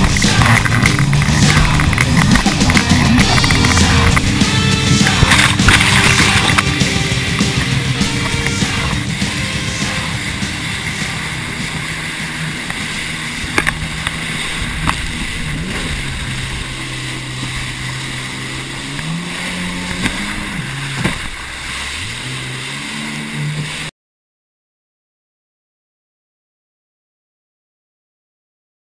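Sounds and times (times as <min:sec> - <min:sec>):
jet ski engine running: 0:00.0 - 0:23.9
water and wind hiss: 0:00.0 - 0:23.9.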